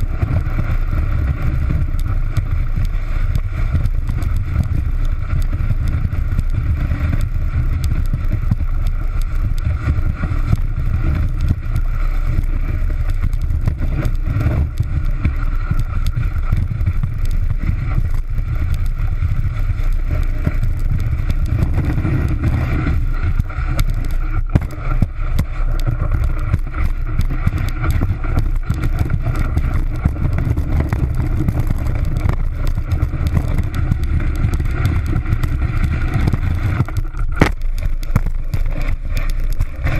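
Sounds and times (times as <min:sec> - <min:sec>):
snowboard sliding over snow: 0:00.0 - 0:39.9.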